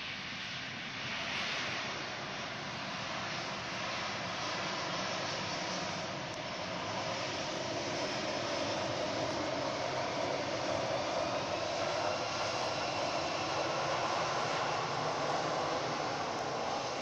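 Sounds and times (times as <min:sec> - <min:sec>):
jet engine rushing: 0:00.0 - 0:17.0.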